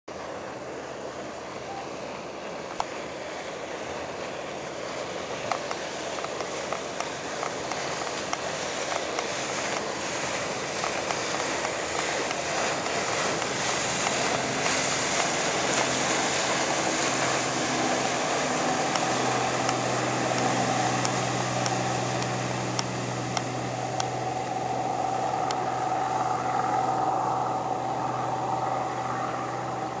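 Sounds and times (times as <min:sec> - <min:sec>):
wind: 0:00.0 - 0:30.0
marine diesel engine drone: 0:00.1 - 0:30.0
rushing water: 0:00.1 - 0:30.0.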